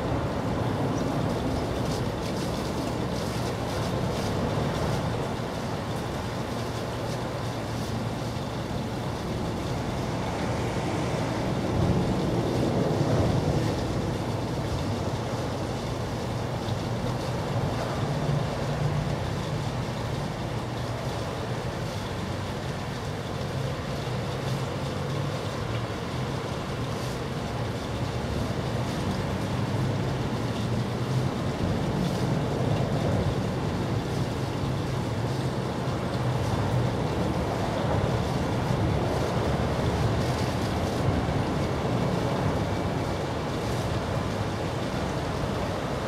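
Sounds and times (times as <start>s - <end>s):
low outdoor rumble: 0.0s - 46.0s.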